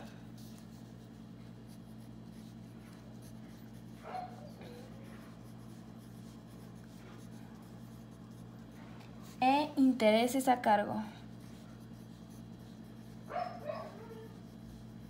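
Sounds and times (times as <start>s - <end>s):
pencil scratching on paper: 0.0s - 15.0s
steady low hum: 0.0s - 15.0s.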